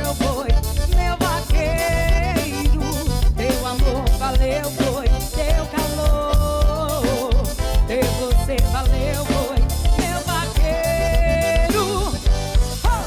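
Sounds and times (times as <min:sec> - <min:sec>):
bass: 0:00.0 - 0:13.0
steady drum beat: 0:00.0 - 0:13.0
wavering melodic lead line: 0:00.0 - 0:13.0.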